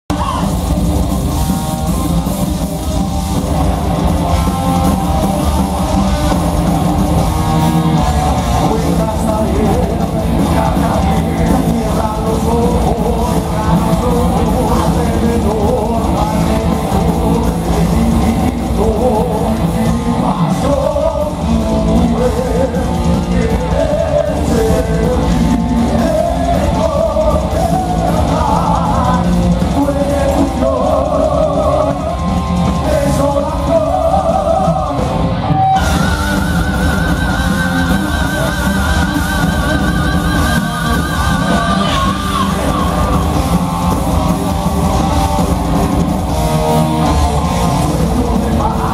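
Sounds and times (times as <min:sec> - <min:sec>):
heavy metal band playing: 0:00.0 - 0:48.9
men singing: 0:07.6 - 0:45.2, 0:46.7 - 0:48.9.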